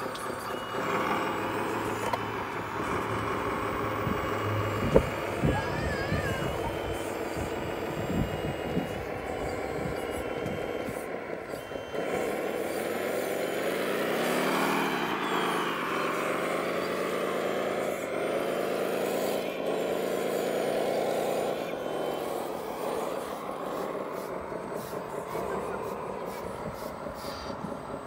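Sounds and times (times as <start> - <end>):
model vehicle motor drone: 0.0 - 28.0.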